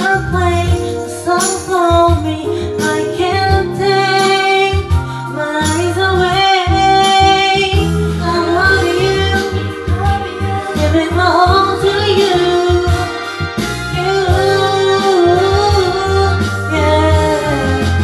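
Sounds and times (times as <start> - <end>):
karaoke backing track: 0.0 - 18.0
woman singing pop song: 0.0 - 18.0.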